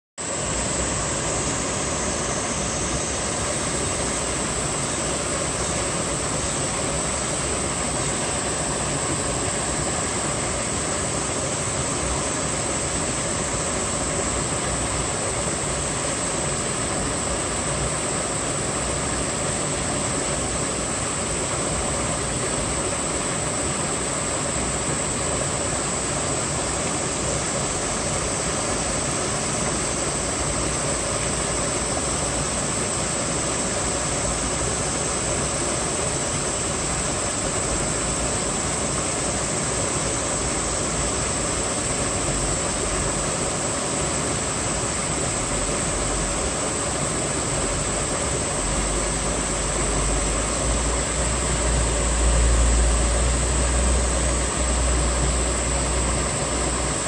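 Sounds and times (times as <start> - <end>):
mountain stream rushing: 0.2 - 57.0.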